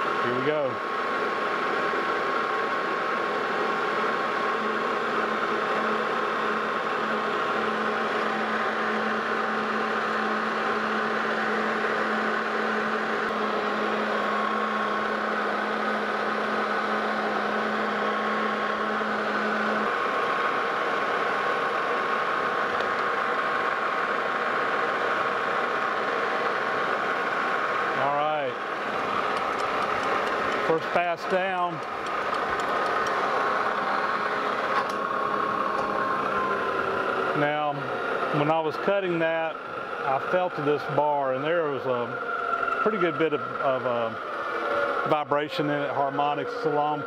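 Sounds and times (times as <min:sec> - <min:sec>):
metal lathe humming: 0:00.0 - 0:47.0.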